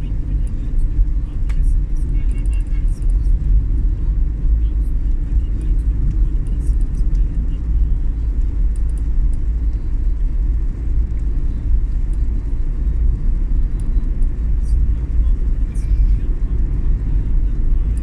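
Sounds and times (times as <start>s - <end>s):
vehicle road and wind rumble: 0.0s - 18.0s.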